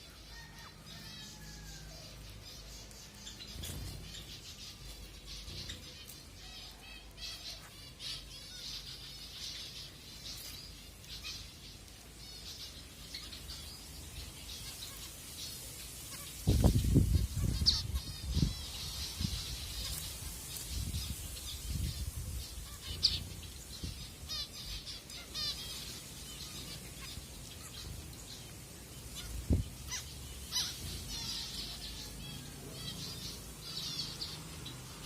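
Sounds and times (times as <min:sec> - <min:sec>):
finches chirping: 0:02.6 - 0:35.0.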